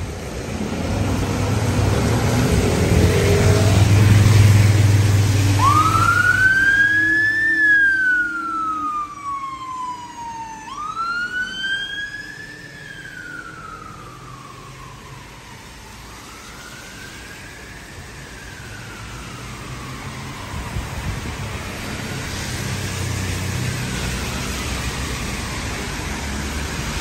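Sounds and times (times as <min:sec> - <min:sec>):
police siren wailing: 0:00.0 - 0:27.0
rain and tyres hissing: 0:00.0 - 0:27.0.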